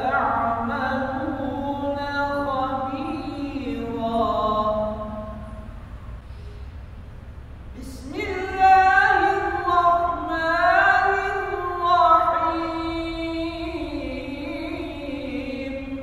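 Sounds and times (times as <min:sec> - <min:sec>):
person chanting melodic recitation: 0:00.0 - 0:05.7, 0:07.8 - 0:16.0.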